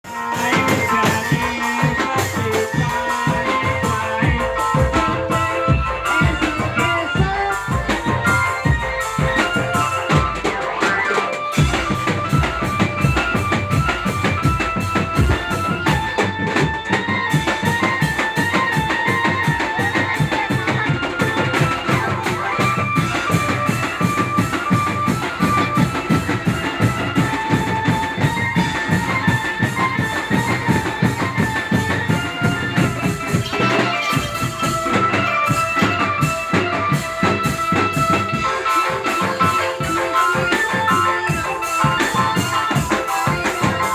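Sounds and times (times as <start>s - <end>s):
drum band playing: 0.0s - 43.9s
melody above drumming: 0.0s - 43.9s.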